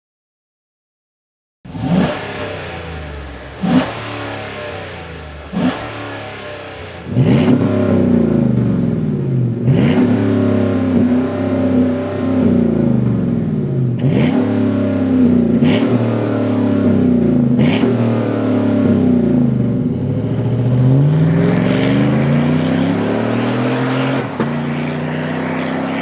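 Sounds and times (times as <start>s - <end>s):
truck engine revving: 1.7s - 26.0s.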